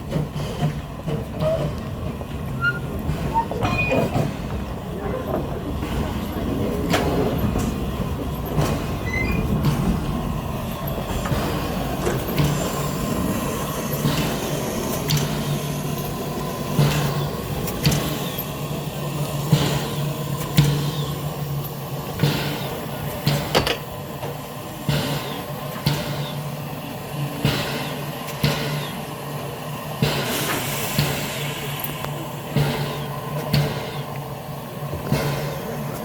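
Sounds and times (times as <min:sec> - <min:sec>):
train knocks and clanks: 0:00.0 - 0:36.0
train low hum: 0:00.0 - 0:36.0.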